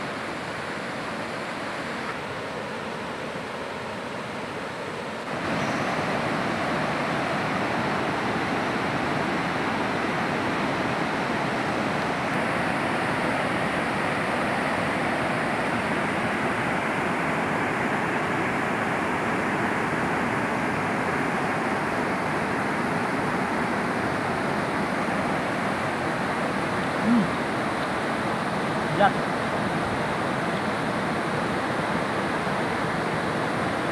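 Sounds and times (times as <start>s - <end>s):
river rushing over rocks: 0.0s - 33.9s.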